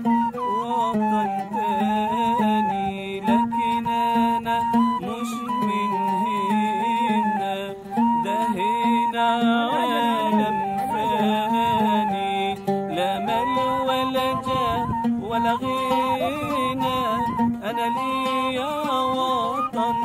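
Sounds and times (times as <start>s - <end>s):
plucked oud: 0.0s - 20.0s
reed flute melody: 0.0s - 20.0s.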